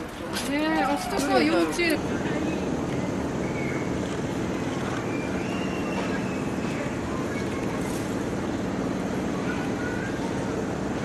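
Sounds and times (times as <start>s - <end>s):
crowd hubbub: 0.0s - 11.0s
distant voices: 0.0s - 11.0s.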